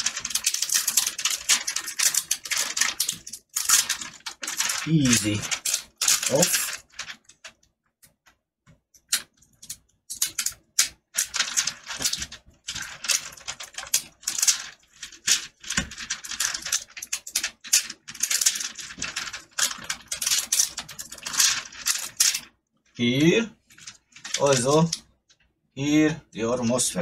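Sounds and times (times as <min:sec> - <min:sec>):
plastic film crackling and crinkling: 0:00.0 - 0:08.4, 0:09.0 - 0:25.5.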